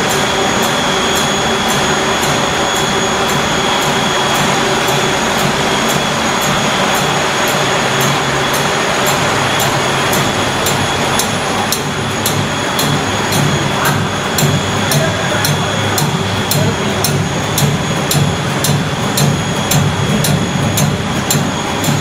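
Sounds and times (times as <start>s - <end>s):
production machinery with high whine: 0.0s - 22.0s
light regular ticking: 1.2s - 22.0s.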